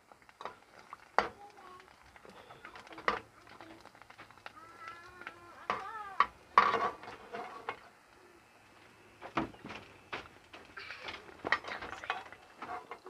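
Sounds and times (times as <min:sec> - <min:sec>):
frying oil sizzling: 0:00.0 - 0:13.0.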